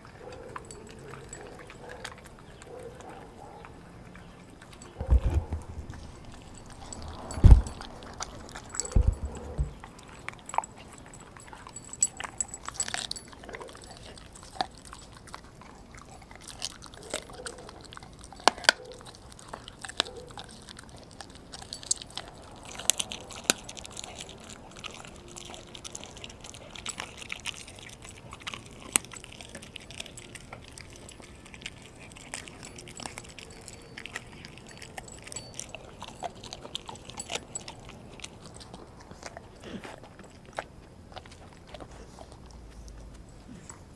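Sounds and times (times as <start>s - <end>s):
dog chewing raw meat: 0.0s - 43.9s.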